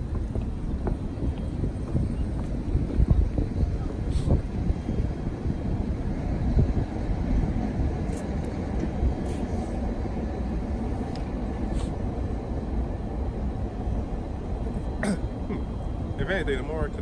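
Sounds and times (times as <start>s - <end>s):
city traffic rumble: 0.0s - 17.0s
wind on microphone: 0.0s - 17.0s.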